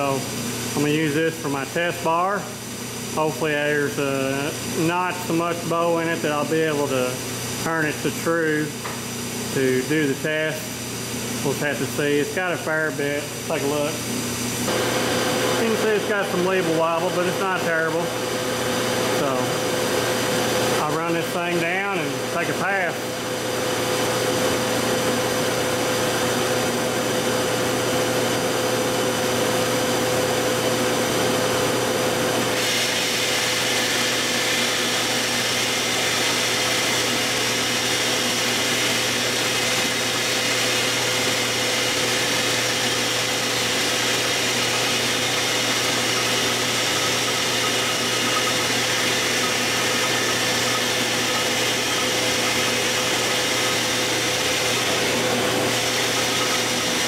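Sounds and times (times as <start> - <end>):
high lathe whine: 0.0 - 57.0
lathe running: 0.0 - 57.0.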